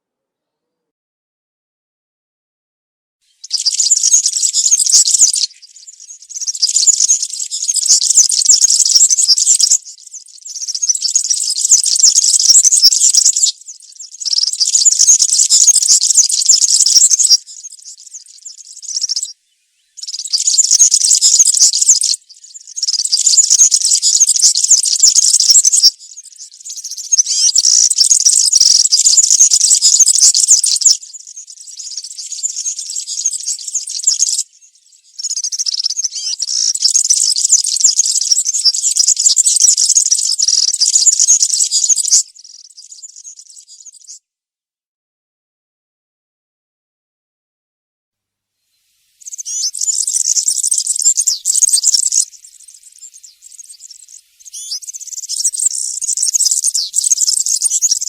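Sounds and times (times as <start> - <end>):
bird singing high jingling song: 3.2 - 44.2, 48.7 - 58.0.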